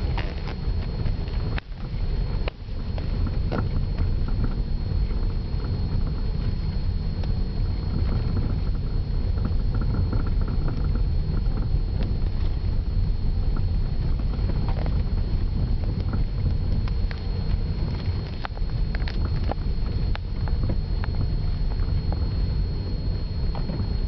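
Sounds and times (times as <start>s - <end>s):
car rumble from inside cabin: 0.0s - 24.0s.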